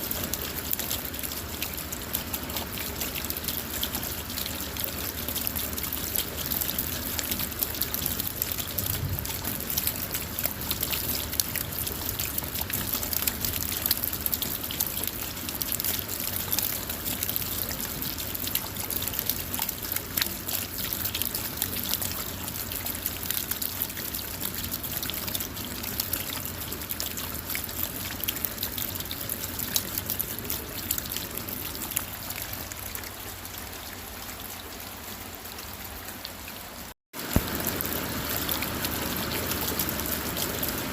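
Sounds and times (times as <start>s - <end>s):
rain on car roof and windows: 0.0s - 40.9s.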